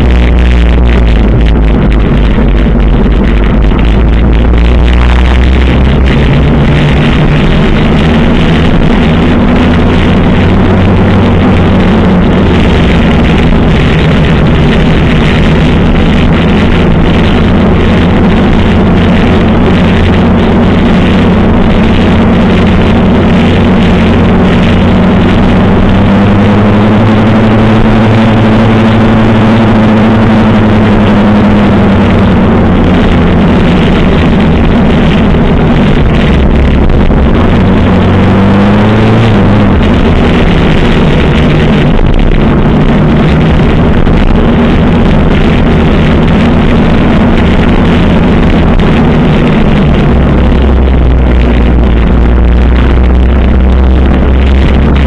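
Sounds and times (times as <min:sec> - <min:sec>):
motorcycle engine running: 0:00.0 - 0:55.0
steady rush of noise: 0:00.0 - 0:55.0.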